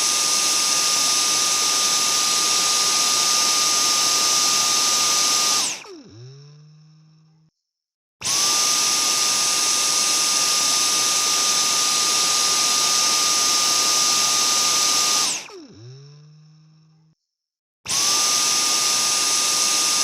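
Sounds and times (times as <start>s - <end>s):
vacuum cleaner motor whine: 0.0s - 7.3s, 8.2s - 17.0s, 17.9s - 20.0s.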